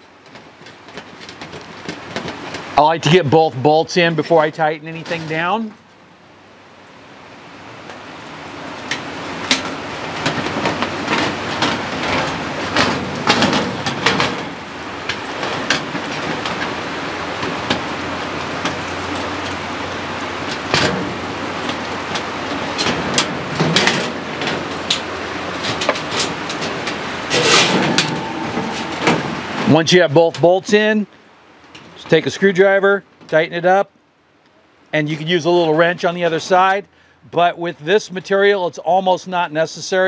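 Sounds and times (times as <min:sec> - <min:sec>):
steady background hiss: 0:00.0 - 0:40.0.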